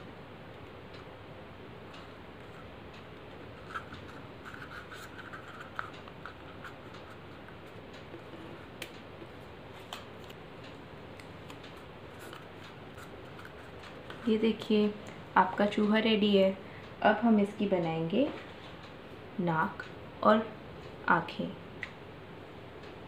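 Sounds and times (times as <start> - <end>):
steady low hiss: 0.0 - 23.0.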